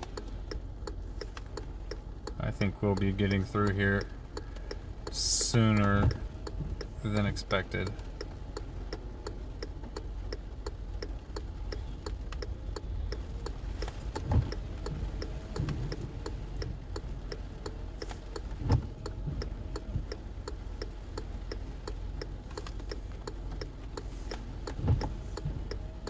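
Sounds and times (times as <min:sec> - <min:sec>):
low steady rumble: 0:00.0 - 0:26.0
turn signal ticking: 0:00.0 - 0:26.0.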